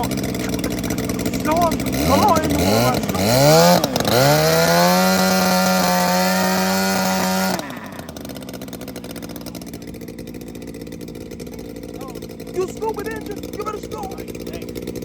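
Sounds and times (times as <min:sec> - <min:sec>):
model plane engine running: 0:00.0 - 0:15.0.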